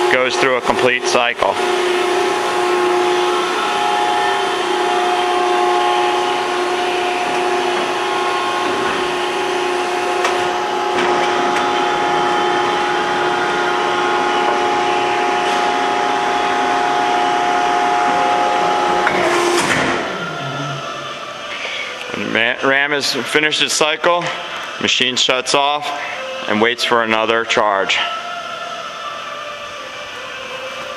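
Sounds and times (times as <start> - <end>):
hydraulic pump motor whining: 0.0 - 30.9.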